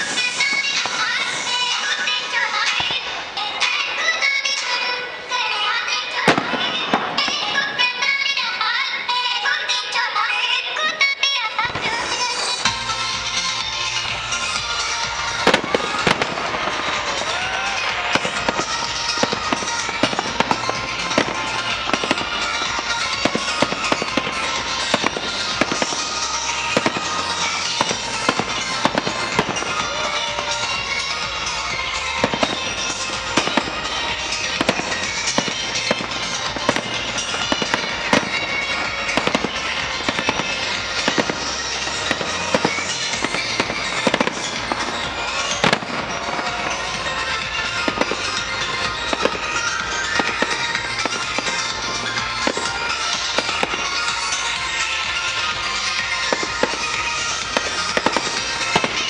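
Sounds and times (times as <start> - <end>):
loud show music: 0.0 - 10.8, 11.5 - 59.0
fireworks bursting: 0.0 - 59.0.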